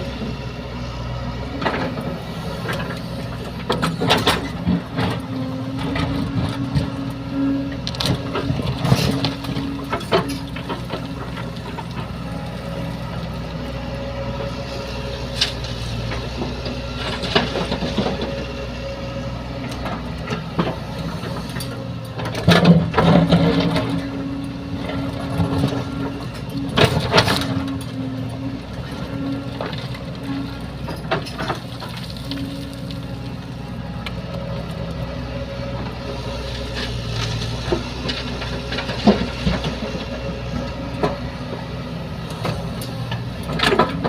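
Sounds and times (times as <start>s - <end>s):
excavator diesel engine revving: 0.0s - 44.0s.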